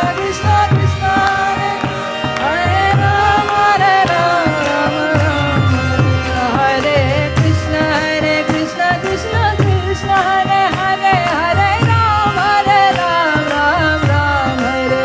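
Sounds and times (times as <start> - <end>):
devotional music with sliding melody: 0.0 - 15.0.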